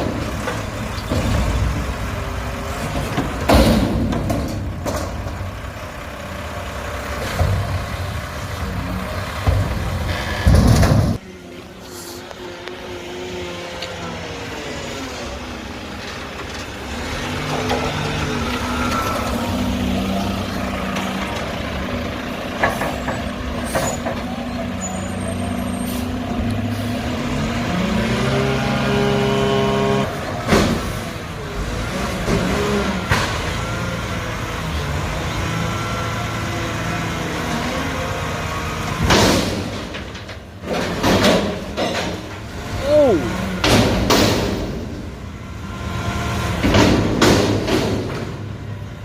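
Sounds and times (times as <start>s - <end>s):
garbage truck diesel engine: 0.0s - 49.0s.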